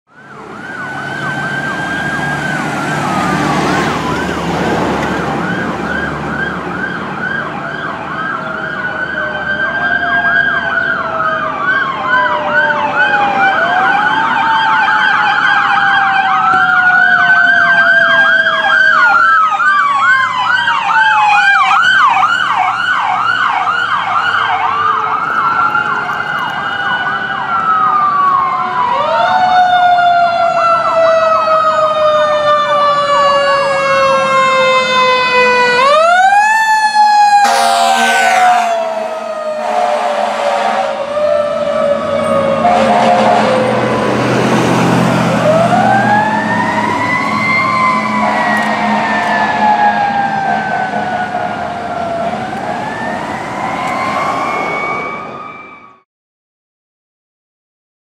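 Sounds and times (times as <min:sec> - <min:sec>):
low siren tone gliding down: 0:00.1 - 0:56.0
wailing sirens: 0:00.1 - 0:56.0
yelping sirens: 0:00.1 - 0:56.0.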